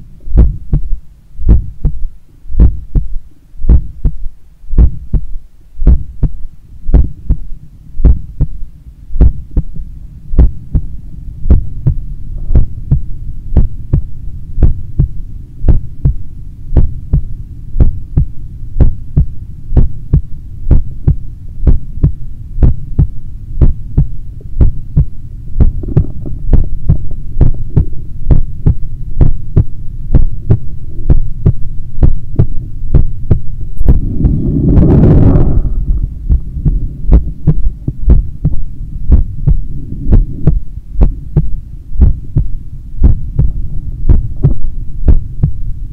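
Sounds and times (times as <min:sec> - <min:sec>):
low hum: 0:00.0 - 0:45.9
heartbeat thuds: 0:00.3 - 0:08.6, 0:09.2 - 0:45.7.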